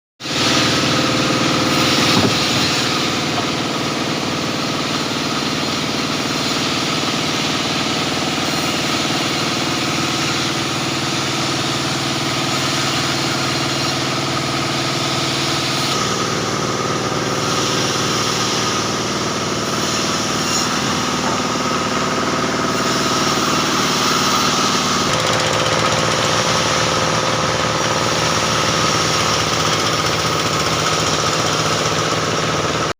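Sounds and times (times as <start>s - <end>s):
machinery running with rapid knocking: 0.2s - 32.9s.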